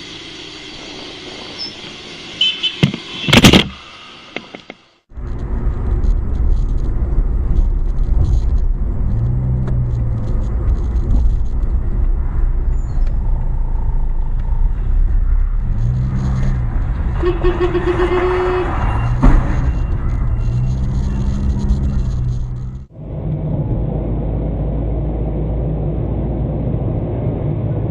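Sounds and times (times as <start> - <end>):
road and engine rumble: 0.0 - 27.9.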